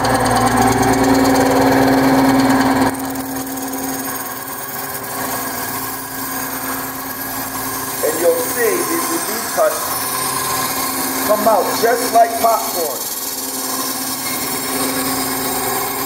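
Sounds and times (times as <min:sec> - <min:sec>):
bandsaw humming: 0:00.0 - 0:16.0
saw blade cutting wood: 0:00.0 - 0:16.0.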